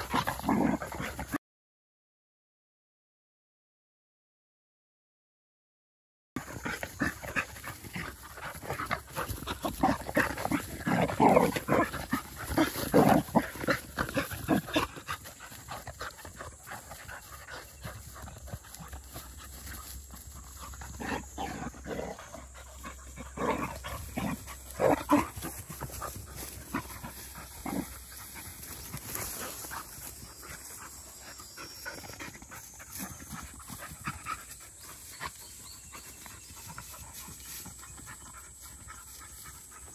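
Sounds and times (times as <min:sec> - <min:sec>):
dogs play-fighting: 0:00.0 - 0:01.4, 0:06.4 - 0:39.9
puppies panting: 0:00.0 - 0:01.4, 0:06.4 - 0:39.9.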